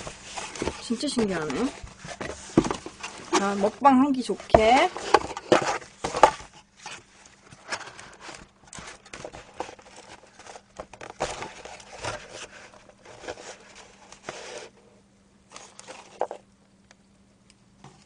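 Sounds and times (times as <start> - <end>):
cardboard boxes rustling and scraping: 0.0 - 14.9, 15.5 - 16.4.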